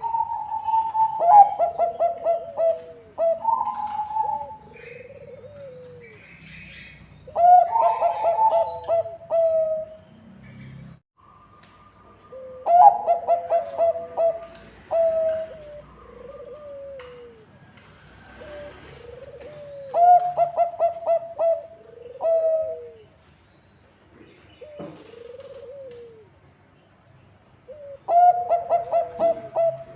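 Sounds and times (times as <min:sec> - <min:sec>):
dove cooing: 0:00.0 - 0:10.0, 0:12.2 - 0:17.6, 0:18.2 - 0:23.2, 0:24.6 - 0:26.4, 0:27.7 - 0:29.9.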